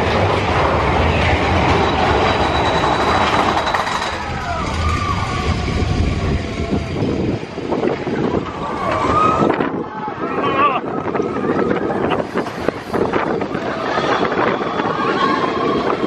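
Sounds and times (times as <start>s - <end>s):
roller coaster wheels rumbling on rails: 0.0s - 16.0s.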